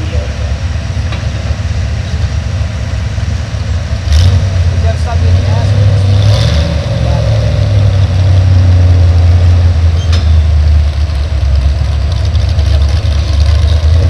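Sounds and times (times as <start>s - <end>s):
heavy engine rumbling: 0.0s - 14.0s.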